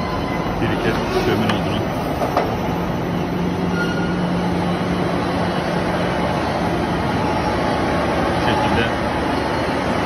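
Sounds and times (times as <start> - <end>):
press machine running with hum: 0.0 - 10.0.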